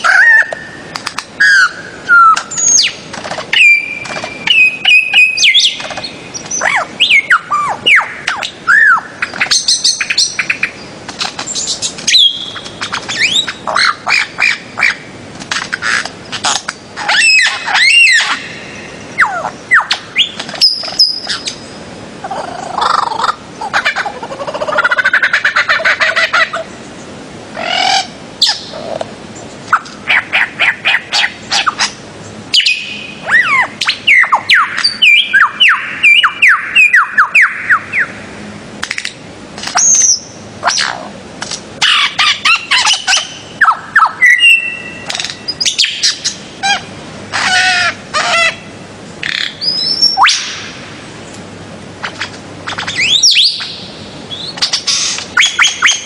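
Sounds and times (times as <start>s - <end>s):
birds chirping and squawking: 0.0s - 51.0s, 52.0s - 56.0s.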